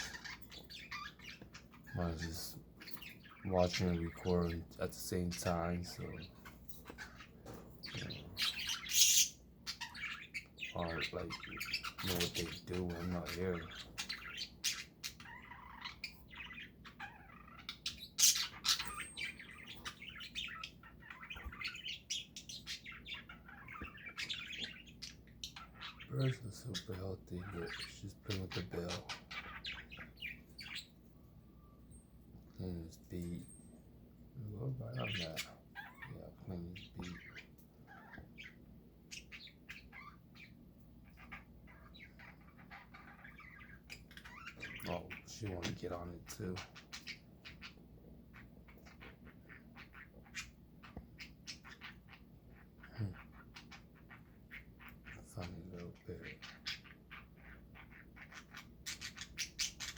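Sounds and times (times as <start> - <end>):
budgerigars chirping: 0.0 - 31.1, 32.6 - 59.9
parrots chattering: 0.0 - 31.8, 32.6 - 59.9.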